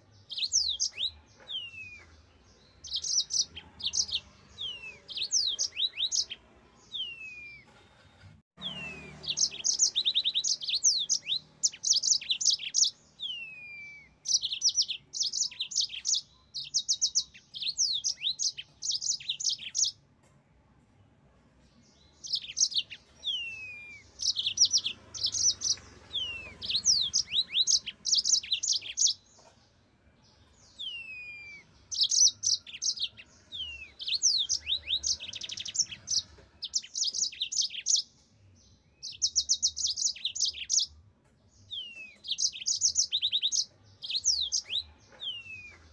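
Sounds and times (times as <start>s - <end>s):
canary singing: 0.0s - 7.7s, 8.6s - 20.0s, 21.8s - 45.9s.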